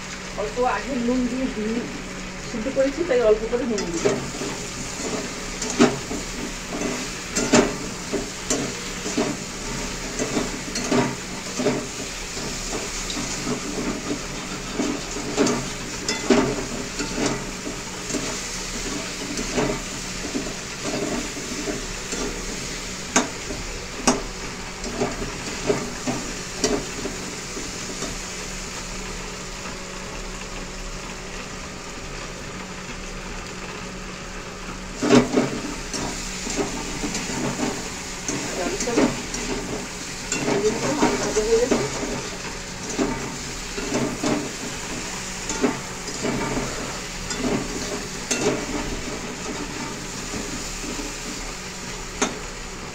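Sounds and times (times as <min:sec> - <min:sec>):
potatoes sizzling in oil: 0:00.0 - 0:52.9.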